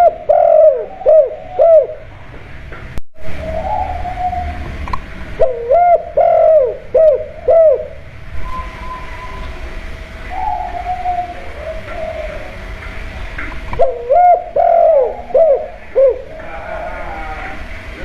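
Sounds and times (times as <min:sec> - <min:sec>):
dove cooing: 0:00.0 - 0:02.4, 0:03.2 - 0:18.0.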